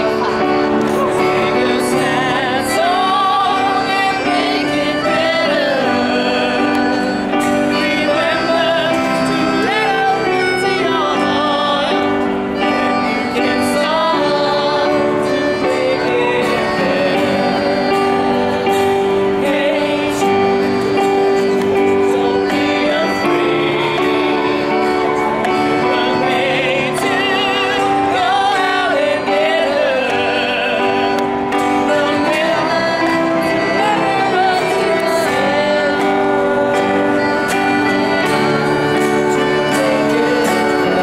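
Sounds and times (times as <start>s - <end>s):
electronic keyboard long notes: 0.0s - 41.0s
melodica: 0.0s - 41.0s
strummed acoustic guitar: 0.0s - 41.0s
voices singing: 0.0s - 41.0s.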